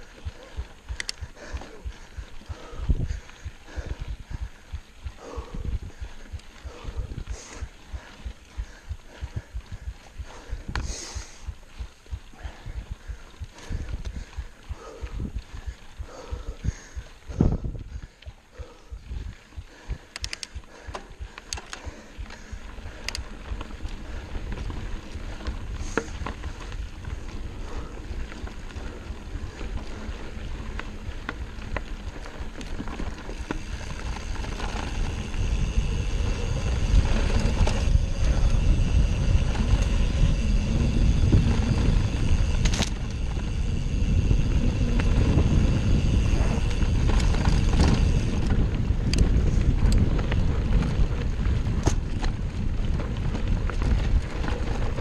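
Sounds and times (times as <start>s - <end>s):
bike clicks and rattles: 0.0s - 55.0s
bike tyre rumble on dirt: 0.0s - 55.0s
wind buffeting microphone: 0.0s - 55.0s.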